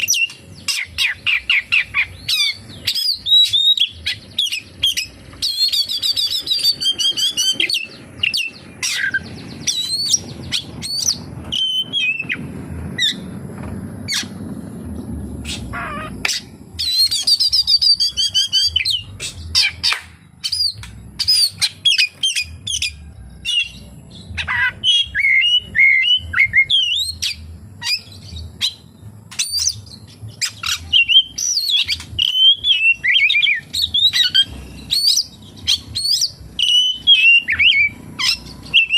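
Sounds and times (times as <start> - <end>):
bird singing whistles and trills: 0.0 - 13.4, 15.4 - 38.9.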